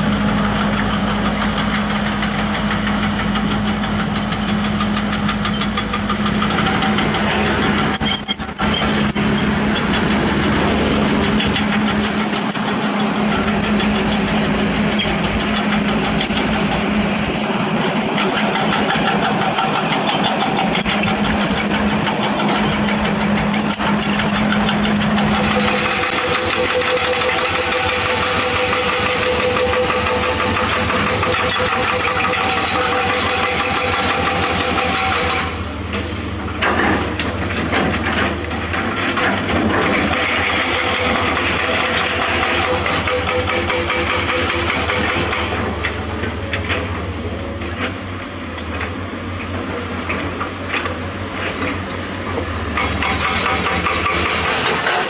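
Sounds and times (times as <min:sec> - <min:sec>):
diesel engines running under load: 0:00.0 - 0:55.0.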